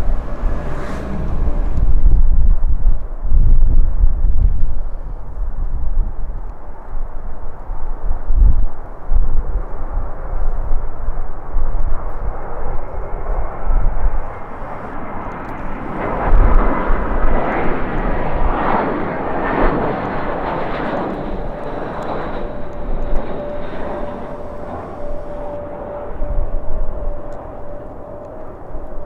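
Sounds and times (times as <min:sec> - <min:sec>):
jet airliner passing: 0:00.0 - 0:29.0
wind buffeting microphone: 0:00.0 - 0:29.0.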